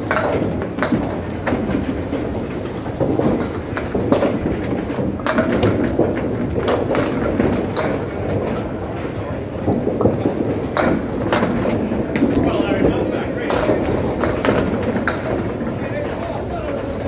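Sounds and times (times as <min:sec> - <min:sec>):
bowling balls rolling: 0:00.0 - 0:17.0.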